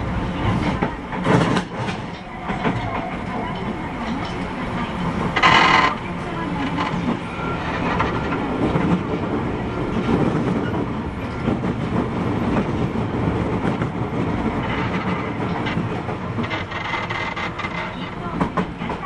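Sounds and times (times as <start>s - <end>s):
subway wheels rumbling on track: 0.0s - 19.0s.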